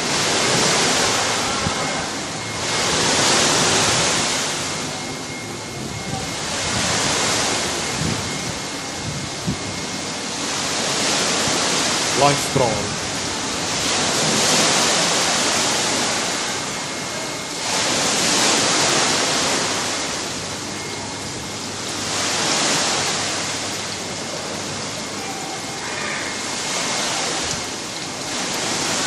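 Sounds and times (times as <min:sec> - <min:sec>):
sea waves washing in: 0:00.0 - 0:29.0.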